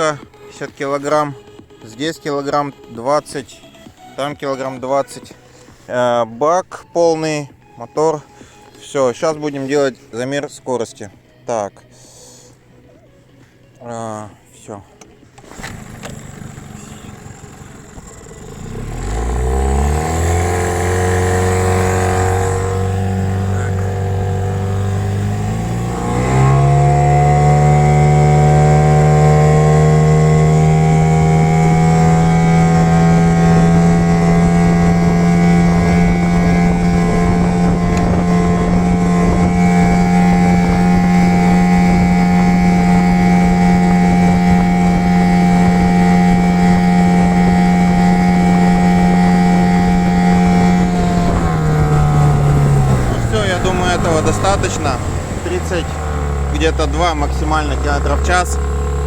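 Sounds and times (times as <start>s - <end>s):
outboard motor revving: 0.0s - 12.9s, 13.8s - 59.0s.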